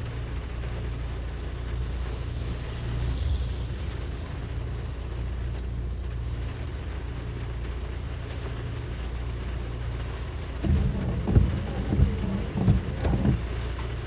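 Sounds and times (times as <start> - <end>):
car engine and tyre noise: 0.0 - 14.0
low rumble with thumps: 0.0 - 14.0.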